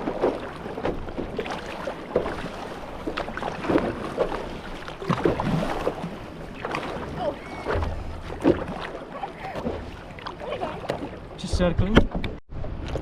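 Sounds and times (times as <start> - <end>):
paddles splashing in water: 0.0 - 13.0.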